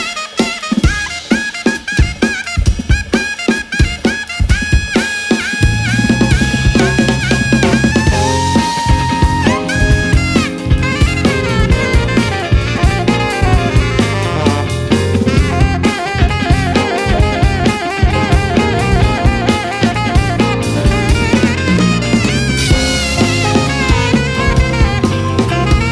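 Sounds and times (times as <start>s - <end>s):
drum kit groove: 0.0s - 25.9s
funk band playing: 0.0s - 25.9s
horn melody: 0.0s - 25.9s.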